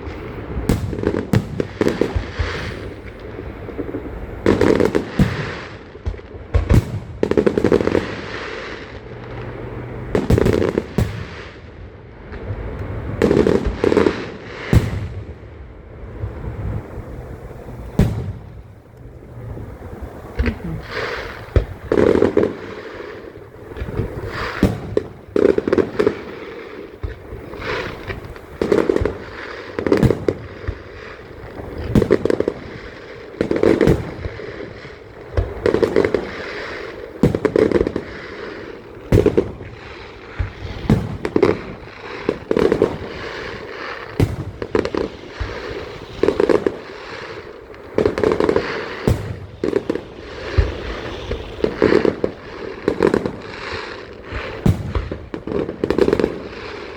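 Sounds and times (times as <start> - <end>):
fireworks crackling: 0.0 - 56.9
fireworks exploding: 0.0 - 56.9.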